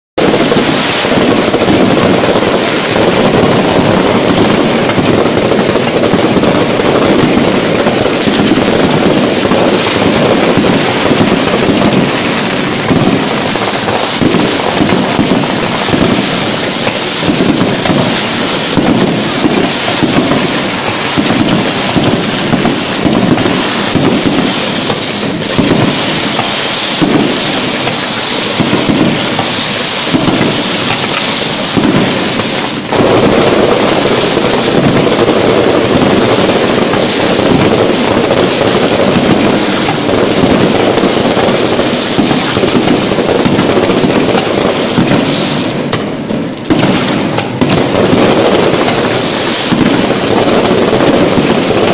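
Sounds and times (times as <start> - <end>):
fireworks bursting and crackling: 0.2 - 51.9.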